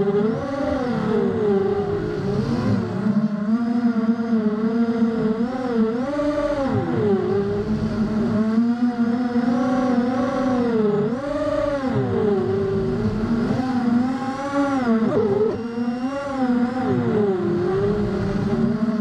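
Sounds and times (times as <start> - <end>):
quadcopter motors buzzing whine: 0.0 - 19.0.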